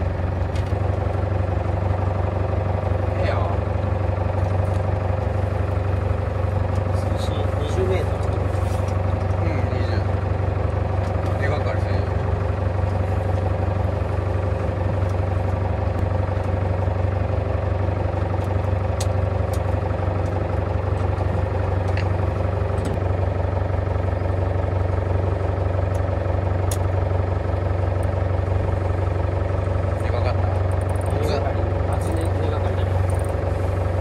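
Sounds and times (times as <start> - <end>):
boat engine humming: 0.0 - 34.0.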